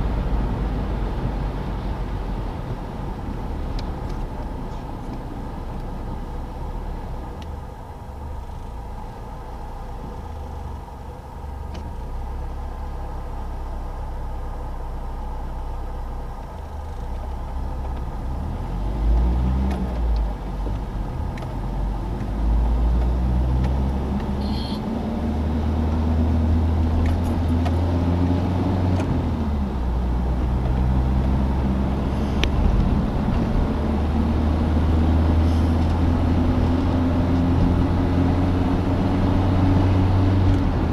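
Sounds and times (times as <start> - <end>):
car engine accelerating: 0.0 - 40.9
road noise: 0.0 - 40.9.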